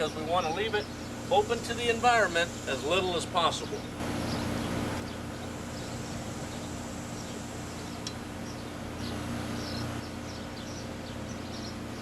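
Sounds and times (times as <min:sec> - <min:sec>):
air conditioner hum and rush: 0:00.0 - 0:12.0.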